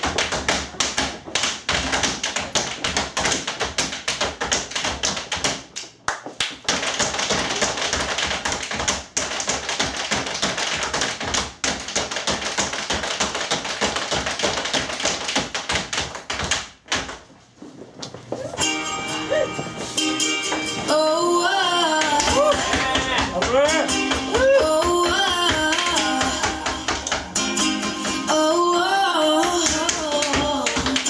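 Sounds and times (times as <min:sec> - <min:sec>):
tap shoes on stage floor: 0:00.0 - 0:18.7, 0:21.9 - 0:28.3, 0:29.4 - 0:31.0.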